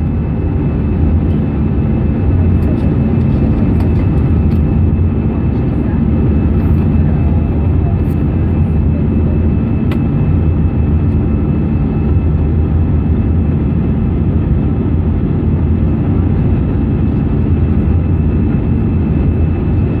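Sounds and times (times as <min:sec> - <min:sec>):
jet engine drone: 0:00.0 - 0:20.0.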